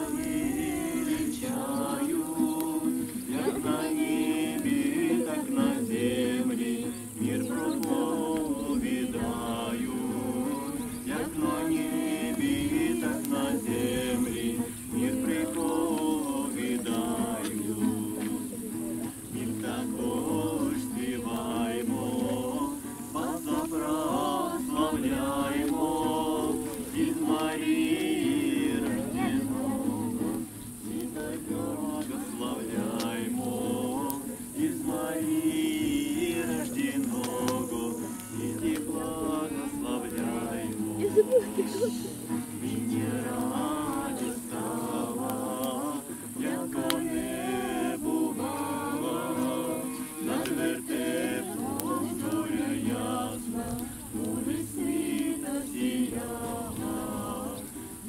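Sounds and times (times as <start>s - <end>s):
group of people singing: 0.0s - 58.0s
strummed acoustic guitar: 0.0s - 58.0s.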